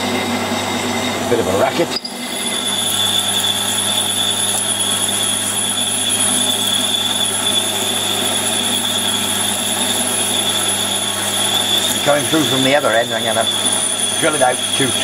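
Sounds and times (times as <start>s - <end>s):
high machine whine: 0.0s - 15.0s
lathe drilling into metal: 0.5s - 15.0s.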